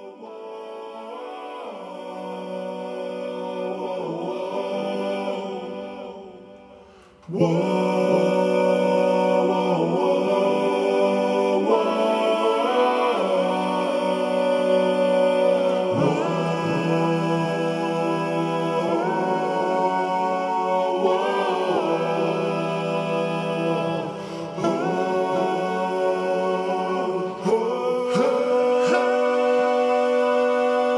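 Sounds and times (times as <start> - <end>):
choir-like singing: 0.0 - 30.9.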